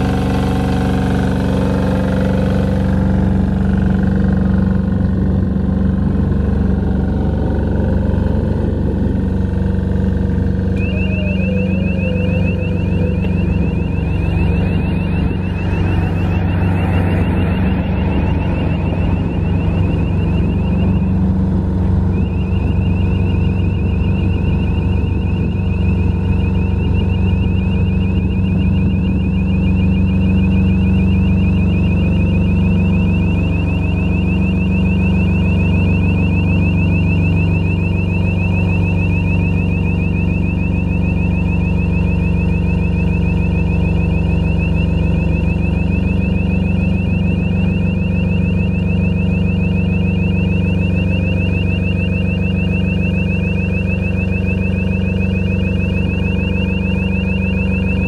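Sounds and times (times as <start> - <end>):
diesel generator running: 0.0 - 58.0
high fast-pulsing beep: 0.0 - 58.0.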